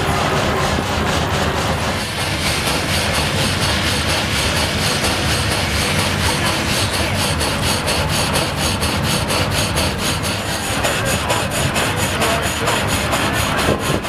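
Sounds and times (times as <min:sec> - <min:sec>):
saw cutting through log: 0:00.0 - 0:14.0
steady rhythmic grinding noise: 0:00.0 - 0:14.0.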